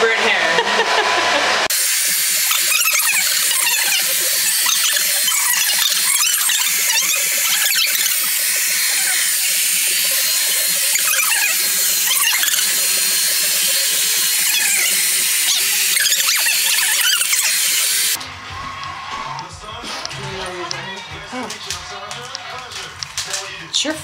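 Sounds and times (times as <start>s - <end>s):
hair dryer running: 0.0s - 22.3s.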